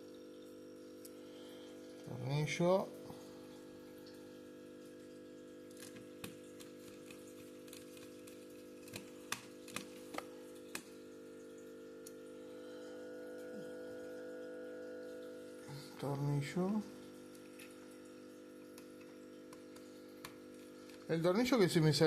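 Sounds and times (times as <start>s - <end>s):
aquarium air pump hum: 0.0s - 22.0s.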